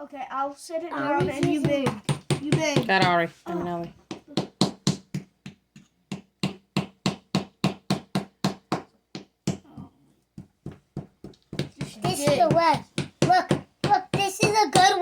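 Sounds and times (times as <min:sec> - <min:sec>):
wooden mallet knocking on brick: 0:01.1 - 0:03.2, 0:04.1 - 0:15.0.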